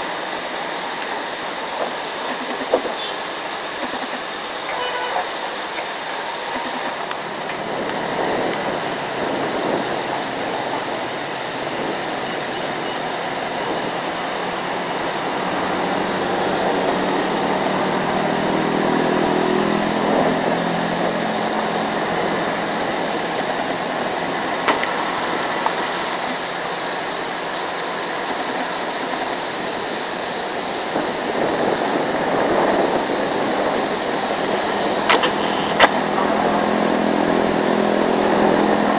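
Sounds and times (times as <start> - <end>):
hazy rushing noise: 0.0 - 38.9.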